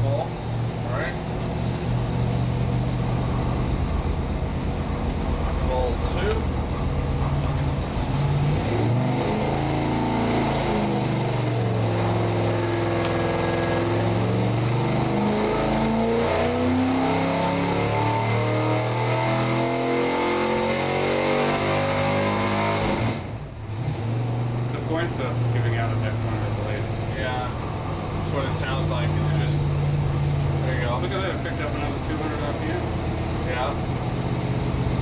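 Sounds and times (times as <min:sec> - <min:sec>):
engine misfire: 0:00.0 - 0:35.0
engine revving at full throttle: 0:00.0 - 0:35.0.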